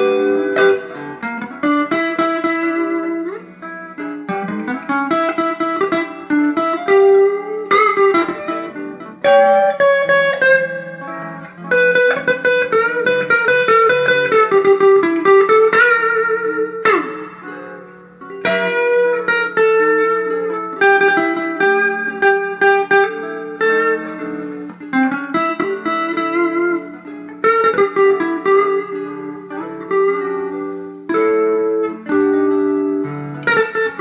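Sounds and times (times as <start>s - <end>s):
electric guitar lead line: 0.0s - 34.0s.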